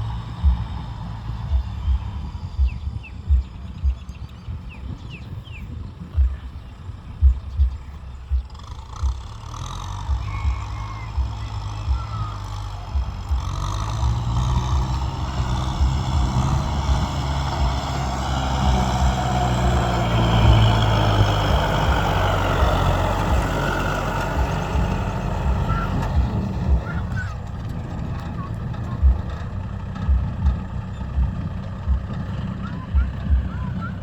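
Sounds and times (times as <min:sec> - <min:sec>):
low thumps: 0:00.0 - 0:09.4, 0:10.0 - 0:34.0
tractor diesel engine running: 0:00.0 - 0:34.0.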